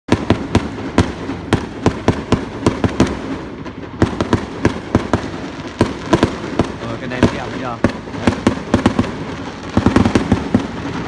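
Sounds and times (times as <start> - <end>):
fireworks bangs: 0.1 - 11.0.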